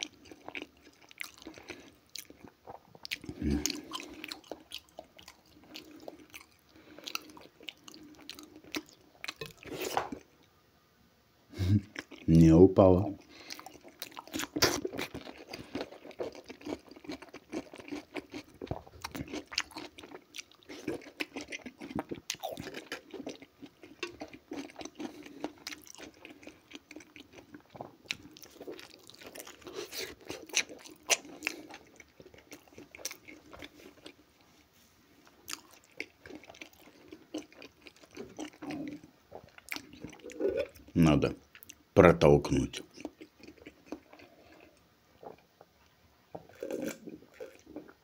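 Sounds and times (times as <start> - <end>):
man crunching a pickle: 0.0 - 10.2, 13.2 - 34.2, 35.4 - 41.0, 42.5 - 45.4, 46.4 - 48.0.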